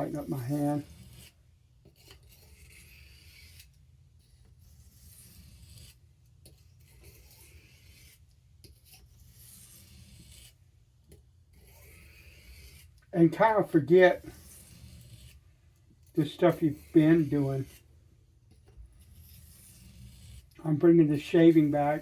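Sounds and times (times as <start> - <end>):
knife scraping on sharpening stone: 0.1 - 3.8, 4.8 - 10.6, 11.5 - 13.0, 13.6 - 15.4, 16.1 - 17.9, 18.9 - 22.0.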